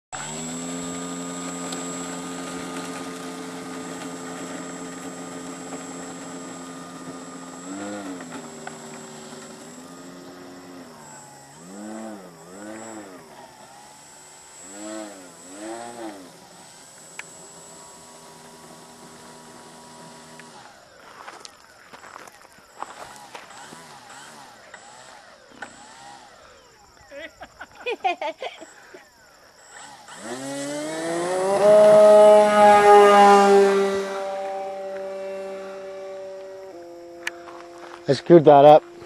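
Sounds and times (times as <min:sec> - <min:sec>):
model airplane motor running: 0:00.2 - 0:39.0.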